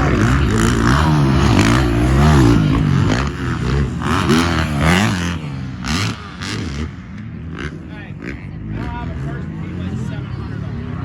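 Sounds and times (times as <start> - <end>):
dirt bike engine revving: 0.0 - 10.1.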